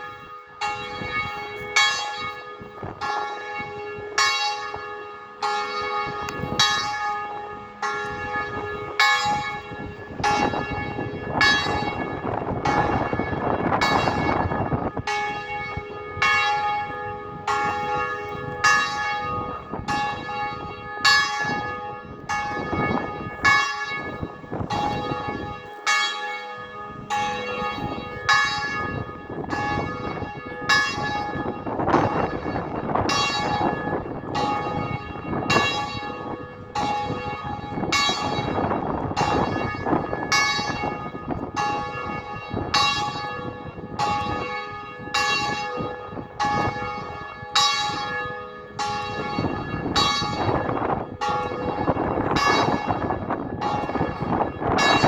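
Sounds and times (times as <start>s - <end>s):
church bell ringing: 0.0s - 55.0s
wind gusts on microphone: 5.8s - 25.7s, 26.8s - 55.0s.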